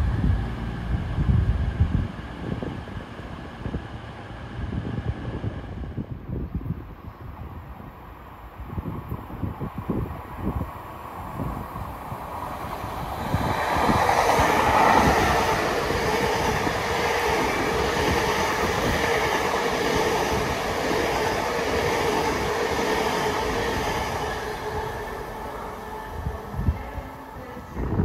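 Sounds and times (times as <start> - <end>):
train running along platform: 0.0 - 28.0
wheel-on-rail hum: 0.0 - 28.0.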